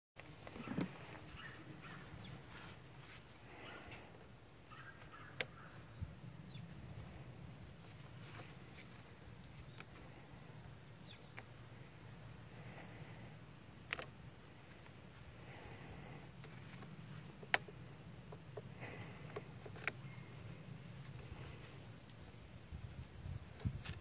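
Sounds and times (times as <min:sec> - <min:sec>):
steady low hum: 0:00.2 - 0:24.0.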